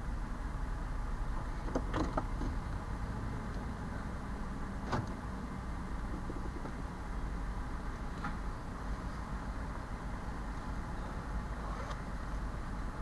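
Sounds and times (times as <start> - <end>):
van engine low rumble: 0.0 - 13.0.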